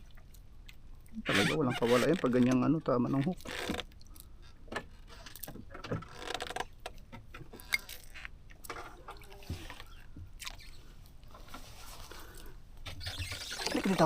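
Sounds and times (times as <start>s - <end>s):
water sloshing: 0.0s - 14.0s.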